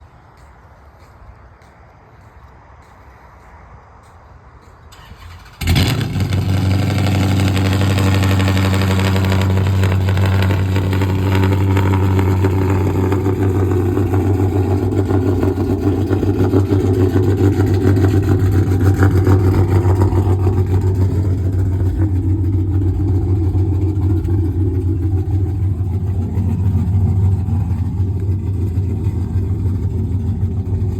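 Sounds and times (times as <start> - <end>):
car engine starting and idling: 4.9 - 30.9.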